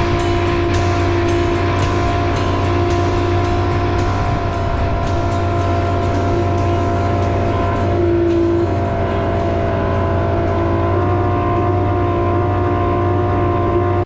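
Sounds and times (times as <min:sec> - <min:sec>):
powerboat engine droning: 0:00.0 - 0:14.0.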